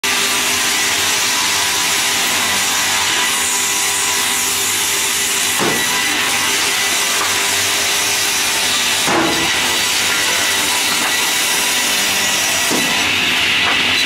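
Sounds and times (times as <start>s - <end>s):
circular saw ripping wood: 1.0s - 14.0s.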